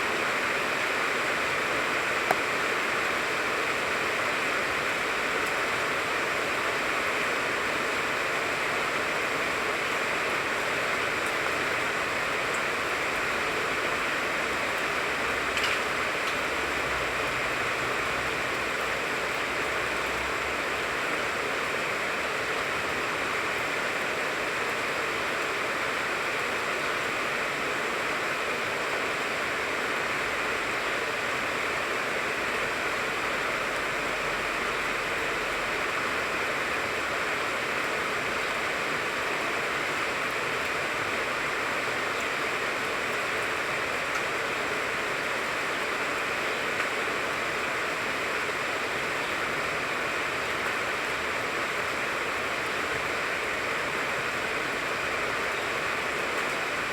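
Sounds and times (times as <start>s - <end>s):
rain falling on a tree: 0.0s - 56.9s.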